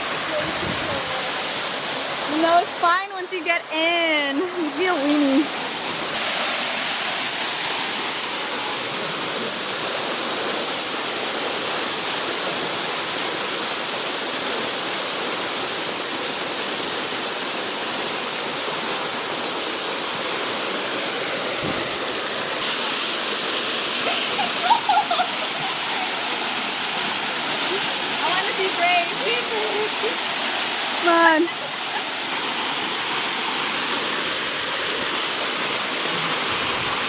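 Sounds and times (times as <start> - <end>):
waterfall rushing into pool: 0.0 - 37.0.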